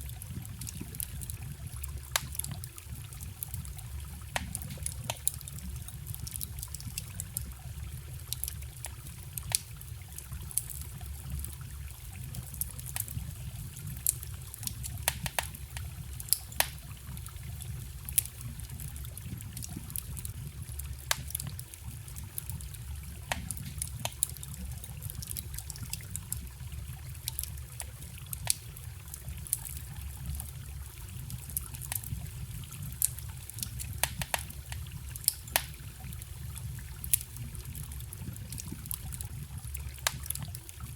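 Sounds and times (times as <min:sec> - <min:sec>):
stream trickling: 0:00.0 - 0:40.9
wood fire crackling and popping: 0:00.0 - 0:40.9.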